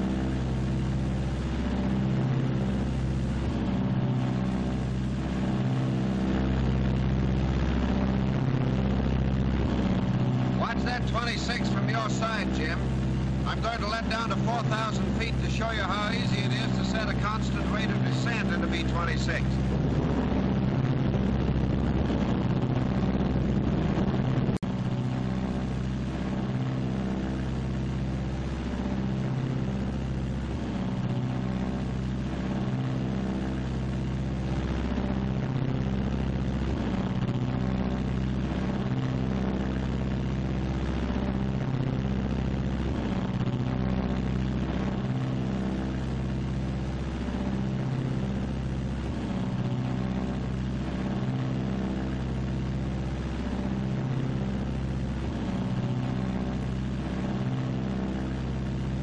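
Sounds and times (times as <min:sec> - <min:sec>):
aircraft engines droning in flight: 0:00.0 - 0:59.0.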